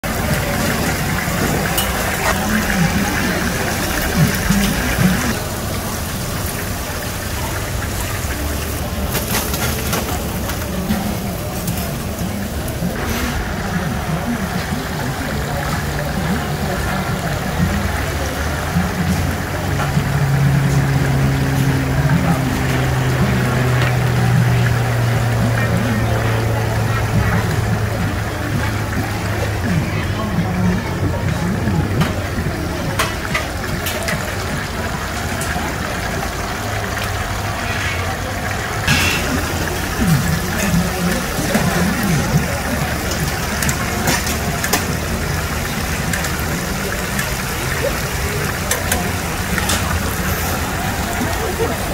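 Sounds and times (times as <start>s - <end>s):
chicken deep-frying in oil: 0.0s - 51.9s.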